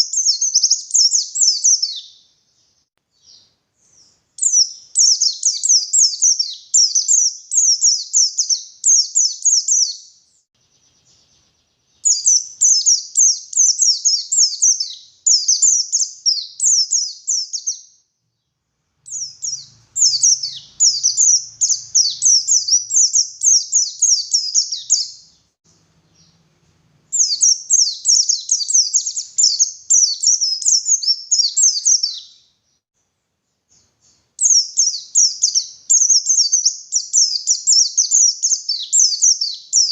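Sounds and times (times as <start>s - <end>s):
bird twittering chirps: 0.0s - 18.1s, 19.0s - 26.4s, 27.1s - 32.8s, 33.7s - 39.9s.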